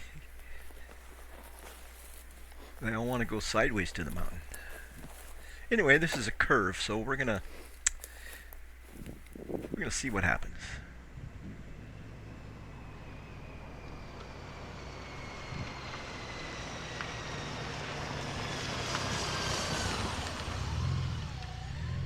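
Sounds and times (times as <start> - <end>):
motorcycle engine and road noise: 0.0 - 22.0.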